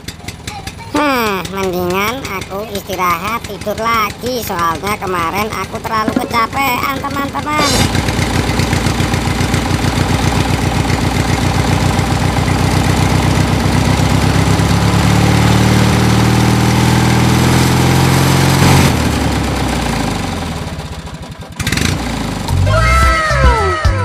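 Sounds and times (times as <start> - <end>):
tractor engine chugging: 0.0 - 24.0.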